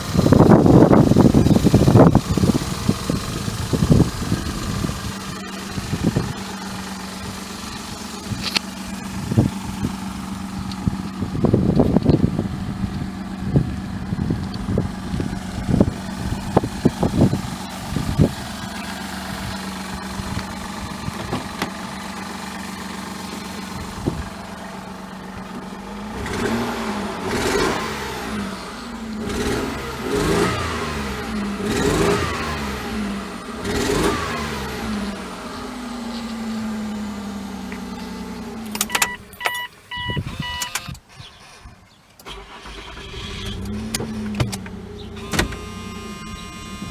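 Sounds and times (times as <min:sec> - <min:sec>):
engine revving: 0:00.0 - 0:39.2, 0:42.2 - 0:46.9
car engine idling unevenly: 0:00.0 - 0:46.9
exhaust puffs: 0:00.0 - 0:46.9.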